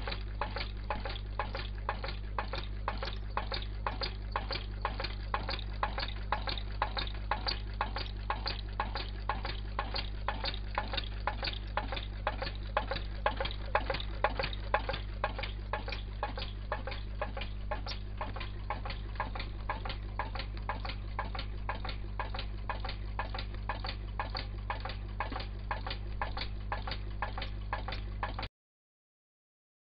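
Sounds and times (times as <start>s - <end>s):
steady low hum: 0.0s - 28.5s
stirling engine ticking: 0.0s - 28.5s.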